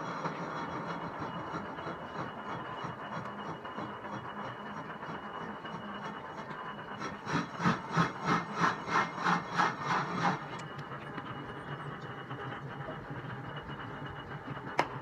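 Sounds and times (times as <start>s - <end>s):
machine shop low hum: 0.0s - 15.0s.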